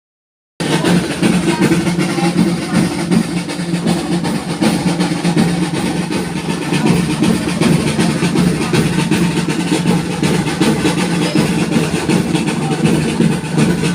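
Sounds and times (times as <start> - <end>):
street drums beating fast rhythm: 0.6 - 13.9.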